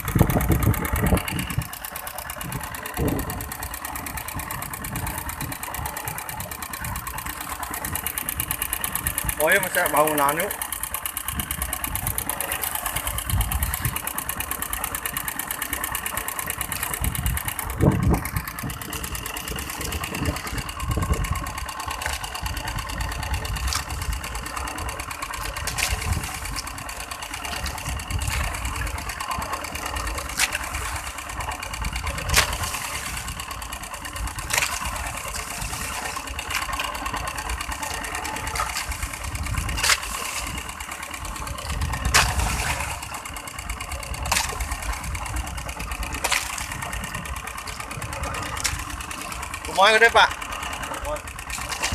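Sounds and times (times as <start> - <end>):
small boat engine running: 0.0 - 51.9.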